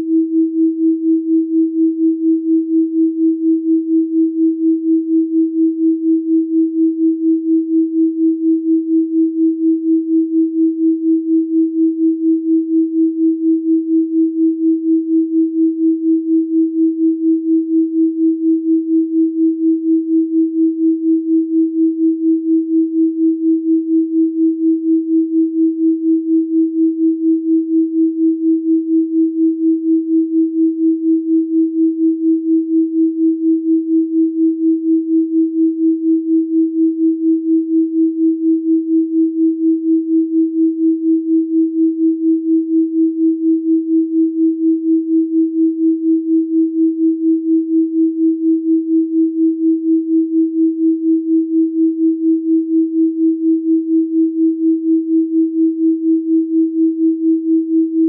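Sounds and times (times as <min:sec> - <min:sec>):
pulsing sine tone: 0:00.0 - 0:58.0.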